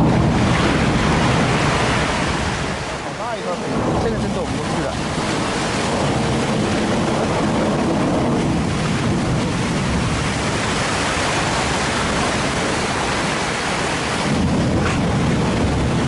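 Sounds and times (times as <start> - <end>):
sea water rushing around ship: 0.0 - 16.0
wind: 0.0 - 16.0.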